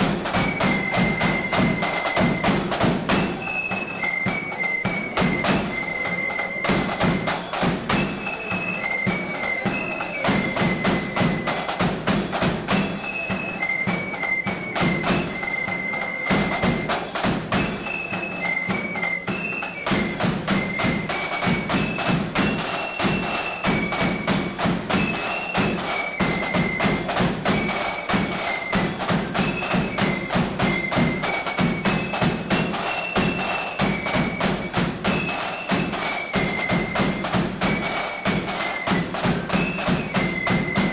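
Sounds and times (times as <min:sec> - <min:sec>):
high flute melody: 0:00.0 - 0:40.9
rapid snare drumming: 0:00.0 - 0:40.9.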